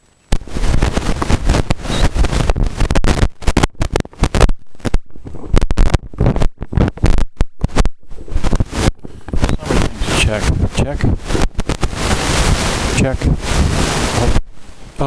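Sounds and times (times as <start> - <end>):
microphone crackles and thumps: 0.2 - 15.0.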